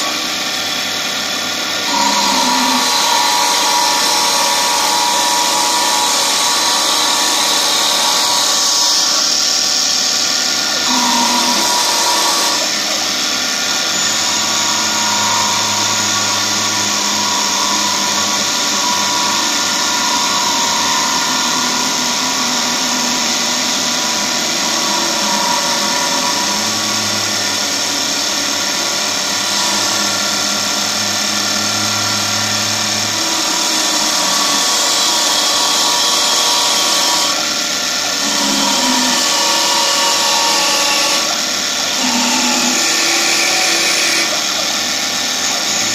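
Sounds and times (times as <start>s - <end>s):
cutter cutting wood: 0.0s - 45.9s
wood lathe whine: 0.0s - 45.9s.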